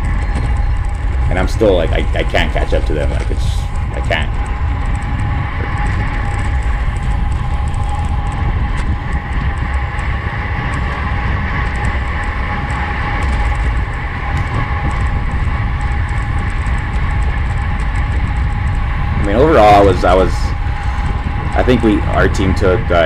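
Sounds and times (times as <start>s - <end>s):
tyre and drivetrain whine: 0.0s - 23.0s
wind buffeting microphone: 0.0s - 23.0s.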